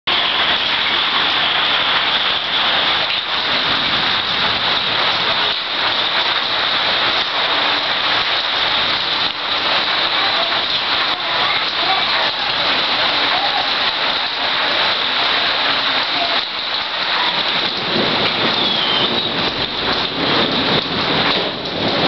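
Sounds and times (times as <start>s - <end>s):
rain falling steadily: 0.1s - 22.0s.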